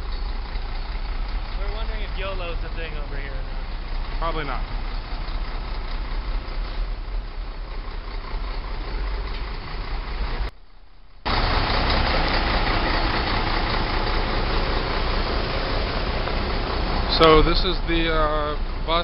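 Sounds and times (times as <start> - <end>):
diesel engine idling: 0.0 - 10.6, 11.2 - 19.0
traffic noise: 0.0 - 19.0.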